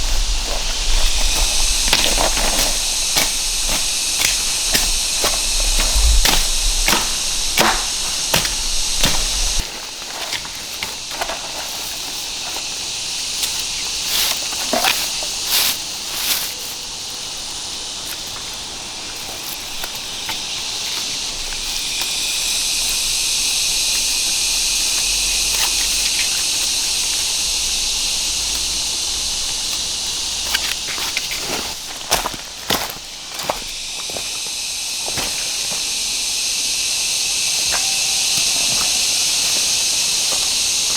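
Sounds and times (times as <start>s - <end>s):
high-pitched insect drone: 0.0s - 40.9s
twigs and leaves rustling: 0.0s - 40.9s.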